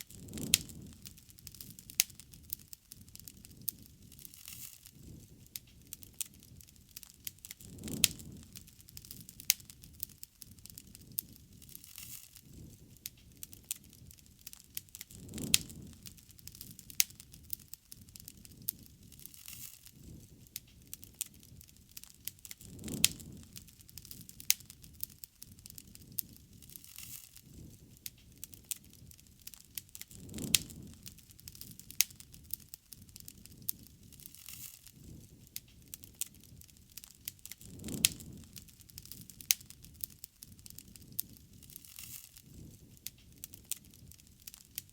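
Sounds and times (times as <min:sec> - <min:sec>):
bonfire crackling and popping: 0:00.0 - 0:44.9
low rush of flame: 0:00.0 - 0:44.9.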